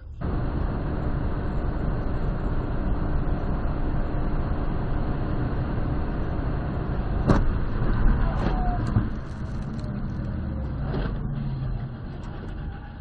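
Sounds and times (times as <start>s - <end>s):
car road and wind noise: 0.0s - 13.0s.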